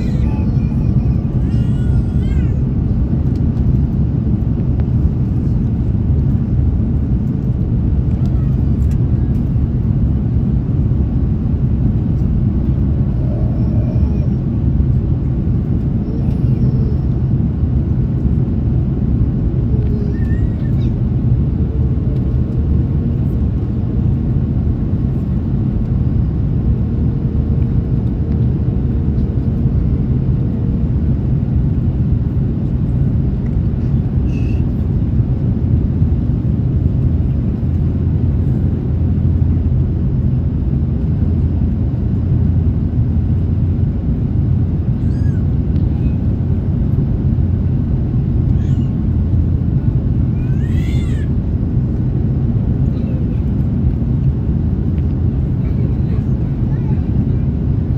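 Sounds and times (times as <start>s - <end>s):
aircraft cabin rumble: 0.0s - 57.9s
faint steady hum: 0.0s - 57.9s.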